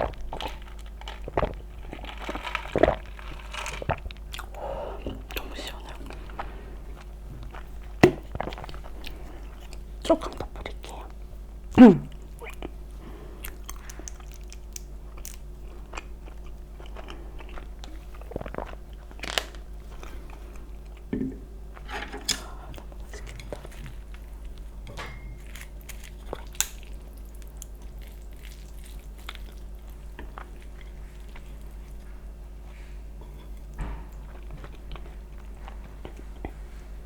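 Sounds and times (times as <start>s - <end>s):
crunching and chewing food: 0.0s - 11.4s, 12.0s - 37.0s
faint steady hum: 0.0s - 37.0s.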